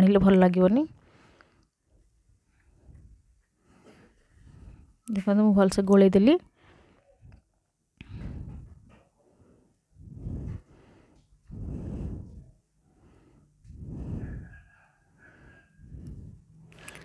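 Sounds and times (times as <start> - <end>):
person breathing softly: 0.9 - 5.1, 6.5 - 17.0.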